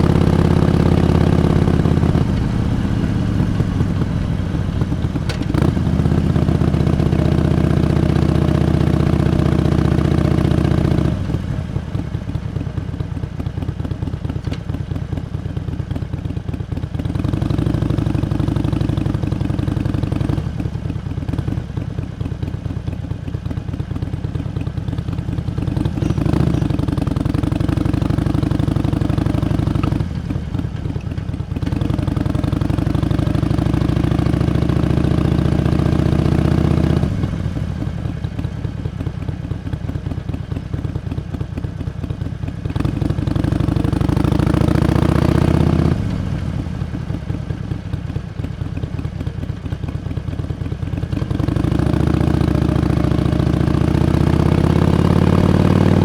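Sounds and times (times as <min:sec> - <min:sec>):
motorcycle engine under throttle: 0:00.0 - 0:56.0.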